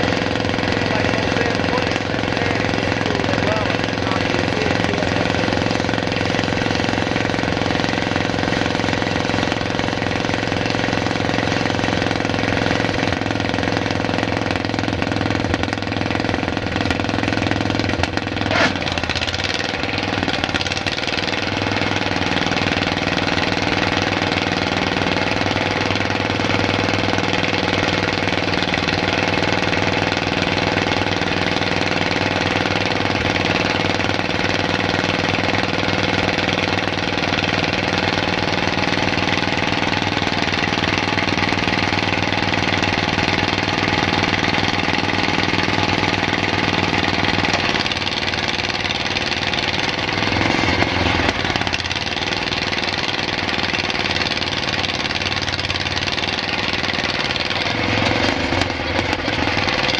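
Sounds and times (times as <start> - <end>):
small starting motor clattering: 0.0 - 59.9.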